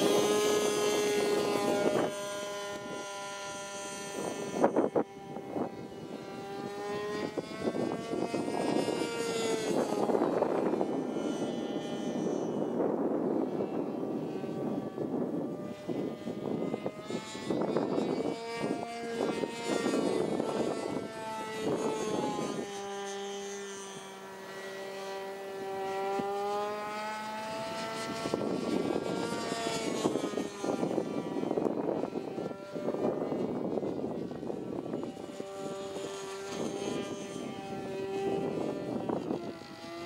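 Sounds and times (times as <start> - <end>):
model plane engine in flight: 0.0 - 40.0
wind noise on microphone: 0.0 - 40.0.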